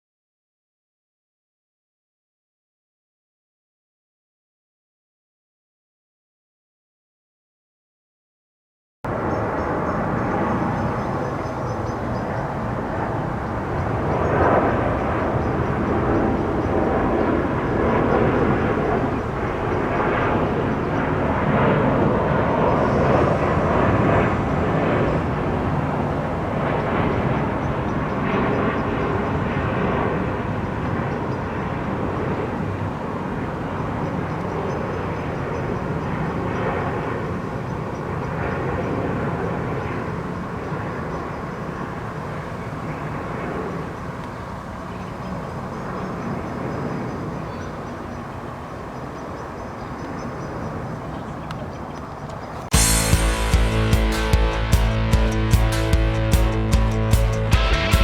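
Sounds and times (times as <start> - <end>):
jet airliner flying over: 9.1 - 56.7.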